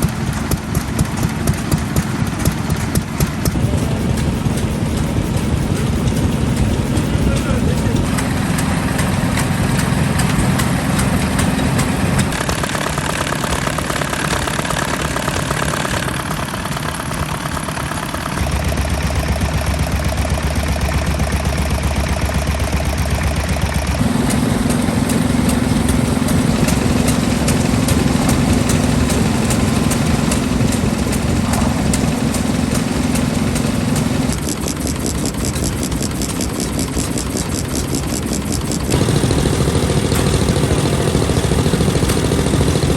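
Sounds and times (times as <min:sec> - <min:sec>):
stationary engines running: 0:00.0 - 0:42.9.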